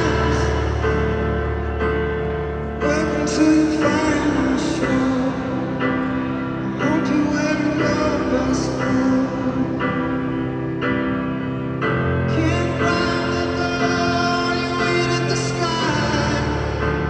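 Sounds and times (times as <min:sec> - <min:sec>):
man singing into microphone: 0:00.0 - 0:01.5, 0:02.8 - 0:10.4, 0:12.2 - 0:17.0.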